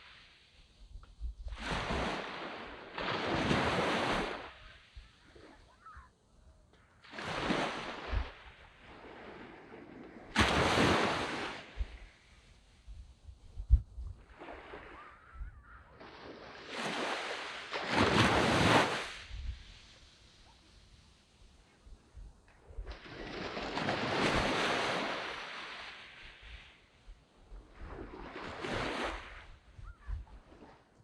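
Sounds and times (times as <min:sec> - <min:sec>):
waves breaking on beach: 0:00.0 - 0:00.9, 0:01.5 - 0:06.2, 0:06.9 - 0:13.3, 0:14.1 - 0:31.0.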